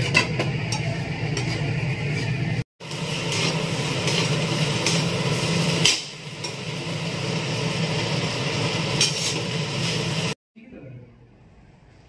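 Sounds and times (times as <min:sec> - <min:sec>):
gas burner noise: 0:00.0 - 0:10.4
noodles frying in a wok: 0:00.0 - 0:10.4.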